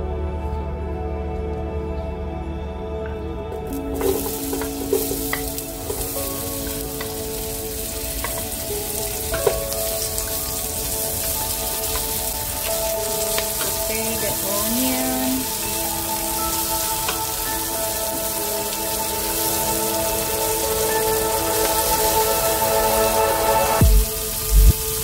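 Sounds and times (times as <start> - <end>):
soft background music: 0.0 - 25.0
onions sizzling in hot oil: 3.7 - 25.0.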